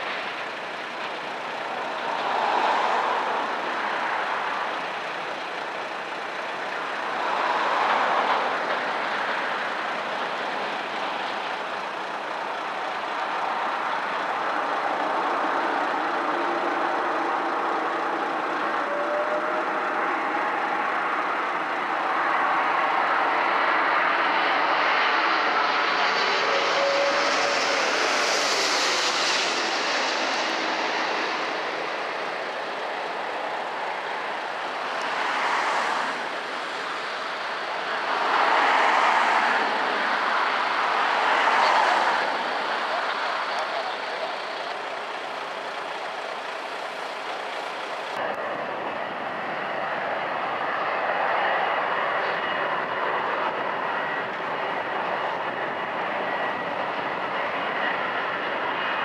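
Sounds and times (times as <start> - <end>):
jet reverse thrust roar: 0.0 - 5.8, 6.4 - 59.0
jet airliner passing: 0.0 - 59.0
jet engine hum: 0.0 - 59.0.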